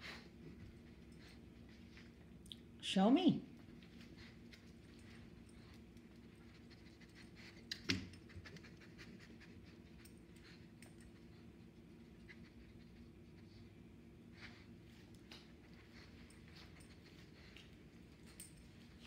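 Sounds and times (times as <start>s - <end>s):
dog panting and sniffing: 0.0s - 2.4s, 3.6s - 19.0s
faint low hum: 0.0s - 19.0s.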